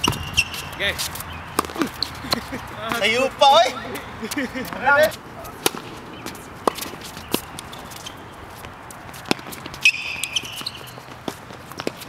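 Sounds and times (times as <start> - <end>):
tennis ball struck by racket: 0.0 - 3.1, 5.4 - 12.0
shoe squeak: 0.0 - 3.2, 5.0 - 12.0.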